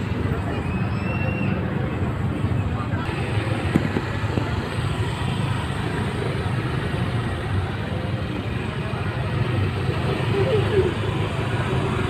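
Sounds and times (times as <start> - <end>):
surrounding traffic noise: 0.0 - 12.0.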